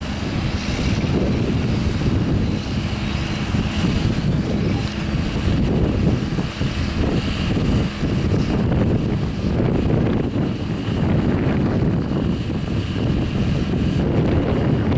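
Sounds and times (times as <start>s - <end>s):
farm machinery droning: 0.0s - 14.9s
wind on microphone: 0.0s - 14.9s.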